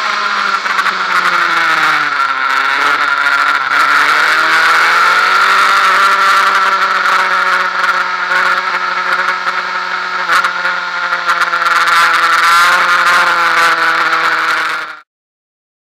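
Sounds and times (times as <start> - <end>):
motorcycle engine running hard: 0.0 - 15.1.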